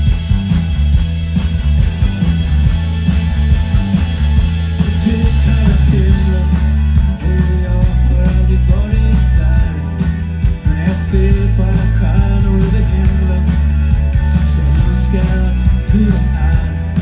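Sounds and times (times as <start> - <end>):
electric bass guitar: 0.0 - 17.0
electric guitar: 0.0 - 17.0.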